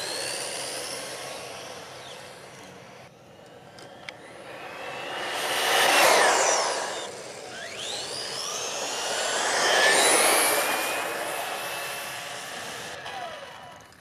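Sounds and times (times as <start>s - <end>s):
rc buggy electric motor whining: 0.0s - 14.0s.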